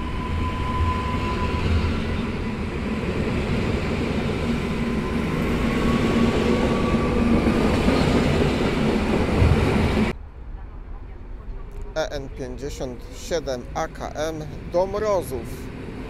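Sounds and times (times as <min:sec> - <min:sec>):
rising train whine: 0:00.0 - 0:16.0.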